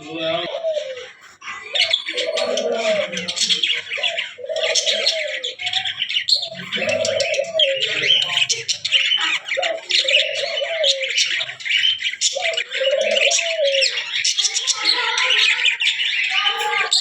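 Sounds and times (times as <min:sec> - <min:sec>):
dove cooing: 0:00.0 - 0:14.2
small birds chirping: 0:00.0 - 0:17.0.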